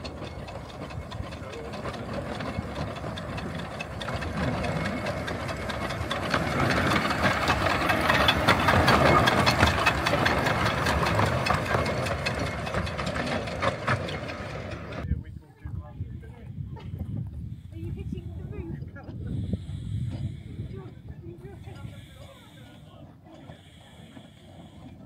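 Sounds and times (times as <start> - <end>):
steam locomotive chuffing: 0.0 - 15.1, 19.1 - 25.0.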